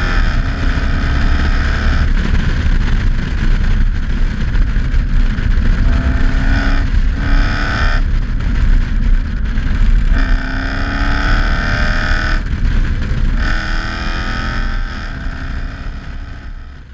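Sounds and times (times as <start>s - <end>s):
road rumble: 0.0s - 16.9s
wind noise: 0.0s - 16.9s.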